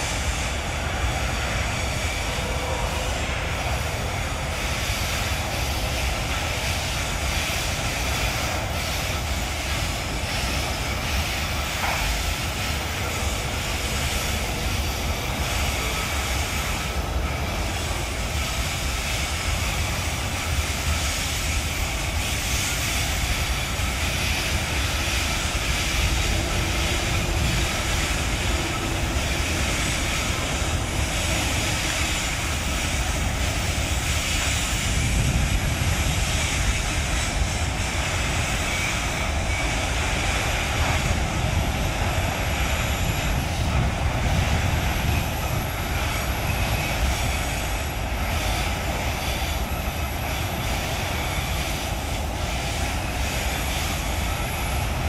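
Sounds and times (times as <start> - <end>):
diesel locomotives droning: 0.0 - 55.0
train wheels rumbling on rail: 0.0 - 55.0.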